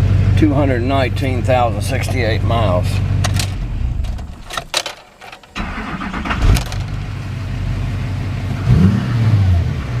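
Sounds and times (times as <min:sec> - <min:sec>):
diesel engine starting and idling: 0:00.0 - 0:04.8, 0:05.4 - 0:10.0.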